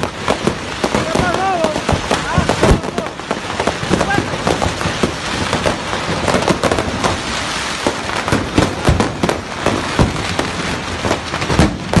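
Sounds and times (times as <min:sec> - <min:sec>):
fireworks crackling: 0:00.0 - 0:12.0
fireworks sharp bangs: 0:00.0 - 0:12.0.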